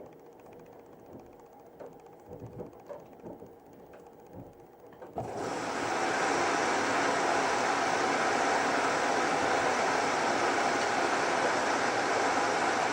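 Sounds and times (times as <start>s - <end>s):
washing machine running: 0.0s - 12.9s.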